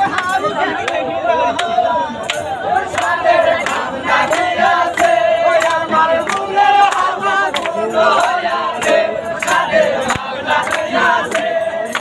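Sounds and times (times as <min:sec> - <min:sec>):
hand claps: 0:00.0 - 0:12.0
men singing and chanting: 0:00.0 - 0:12.0.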